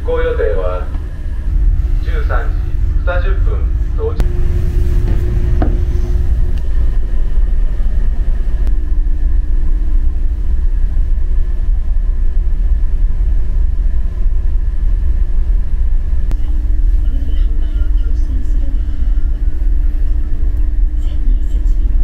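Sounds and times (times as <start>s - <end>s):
faint steady hum: 0.0s - 22.0s
ship engines rumbling: 0.0s - 22.0s.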